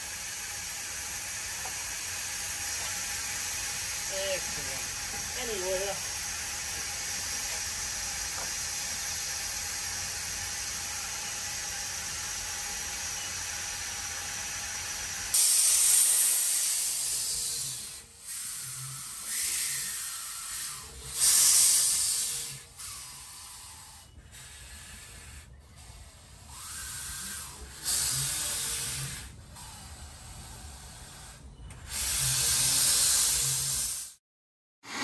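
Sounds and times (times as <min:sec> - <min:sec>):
gusts of hissing steam: 0:00.0 - 0:34.2
steam hissing steadily: 0:00.0 - 0:34.2.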